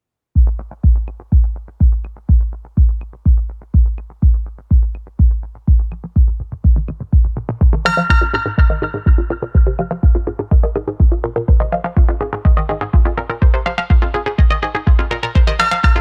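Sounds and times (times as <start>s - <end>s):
electronic dance music: 0.4s - 16.0s.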